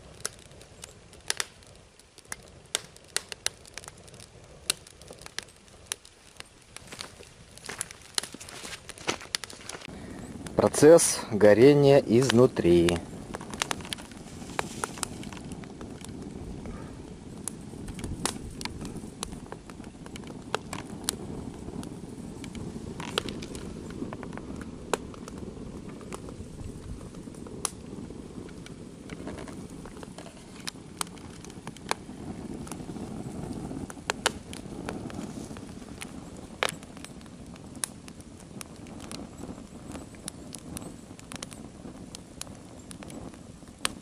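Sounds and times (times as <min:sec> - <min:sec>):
fire crackling and popping: 0:00.0 - 0:44.0
fire rushing: 0:00.0 - 0:44.0.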